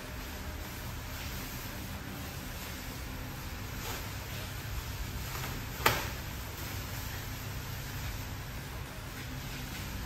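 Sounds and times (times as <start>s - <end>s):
plastic sheet rustling: 0.0s - 10.0s.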